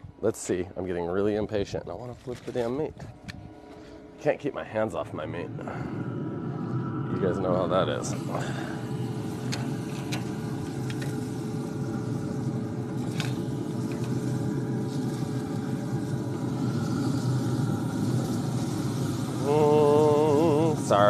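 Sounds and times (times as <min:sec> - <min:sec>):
pellet grill humming: 0:00.3 - 0:21.0.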